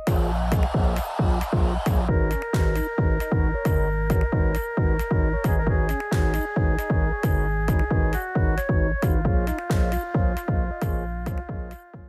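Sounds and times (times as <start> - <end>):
electronic dance music: 0.0 - 11.8.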